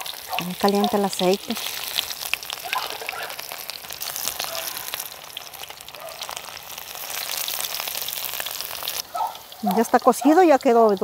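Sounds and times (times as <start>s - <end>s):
fritters sizzling in hot oil: 0.0s - 11.0s.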